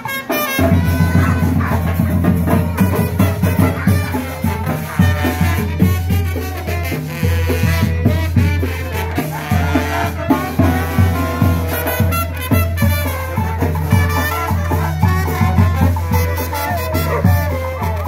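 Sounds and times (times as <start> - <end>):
brass and drum band playing: 0.0 - 18.0.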